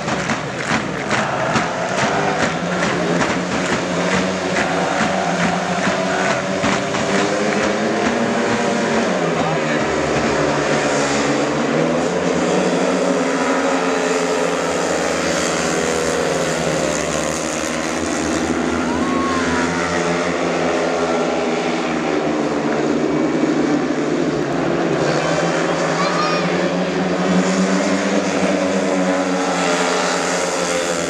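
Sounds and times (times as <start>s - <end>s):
motorcycles racing: 0.0s - 31.0s.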